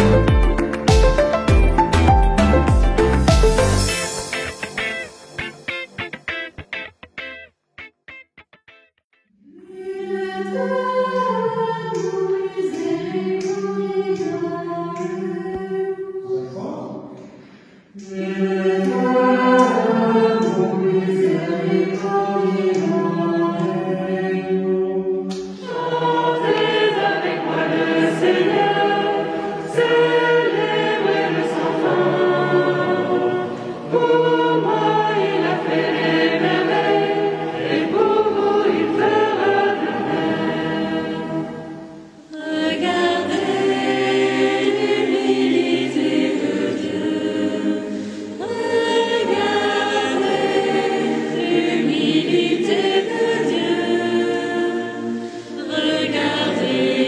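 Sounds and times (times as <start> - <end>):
choir singing unaccompanied: 9.4 - 57.0.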